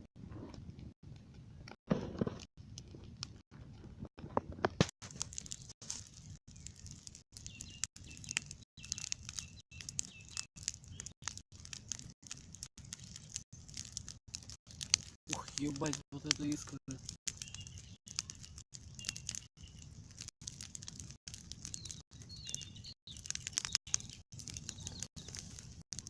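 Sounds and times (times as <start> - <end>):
campfire crackling and popping: 0.2 - 26.0.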